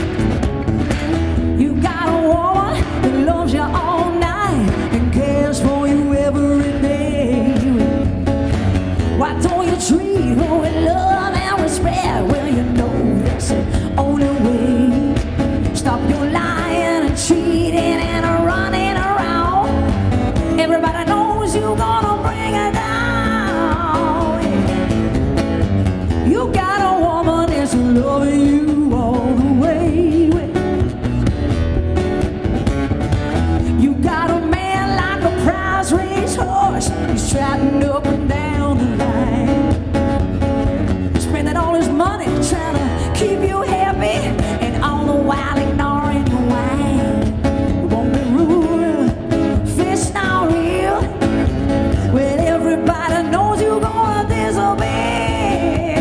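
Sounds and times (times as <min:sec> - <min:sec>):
acoustic guitar: 0:00.0 - 0:56.0
woman singing: 0:01.4 - 0:25.0, 0:26.1 - 0:31.0, 0:33.6 - 0:40.2, 0:41.1 - 0:56.0.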